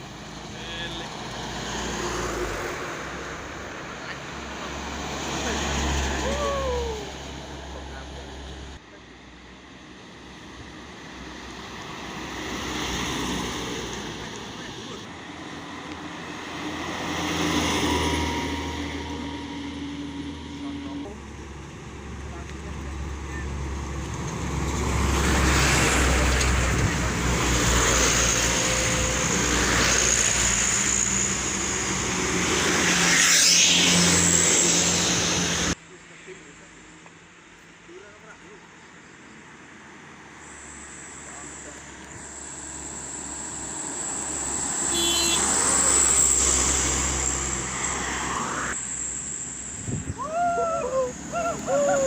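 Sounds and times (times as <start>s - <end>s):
vehicle passing with tyre hiss: 0.0s - 36.6s, 39.0s - 52.0s.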